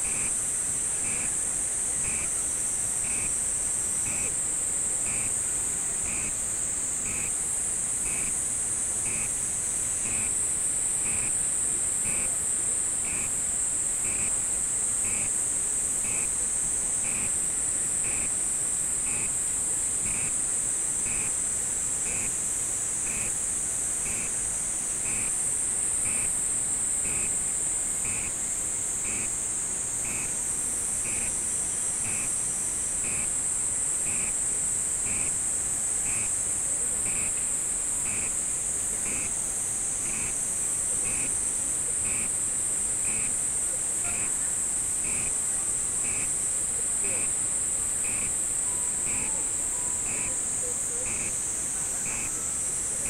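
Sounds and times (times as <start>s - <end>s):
night insects chorus: 0.0s - 53.0s.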